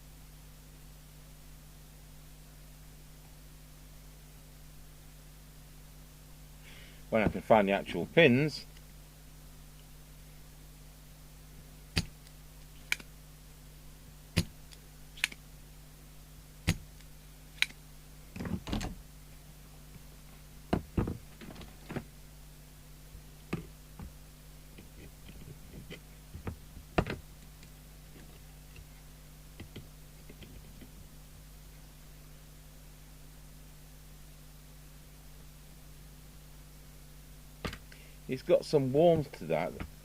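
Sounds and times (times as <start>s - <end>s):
faint low hum: 0.0s - 40.0s.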